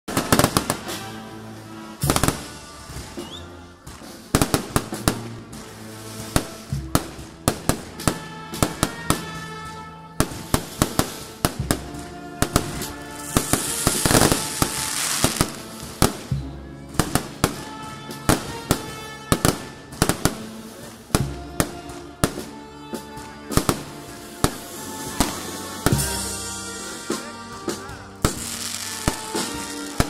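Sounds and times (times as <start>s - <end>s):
fireworks cracking and popping: 0.1s - 1.3s, 1.9s - 26.5s, 28.2s - 30.0s
music with held notes: 0.1s - 30.0s.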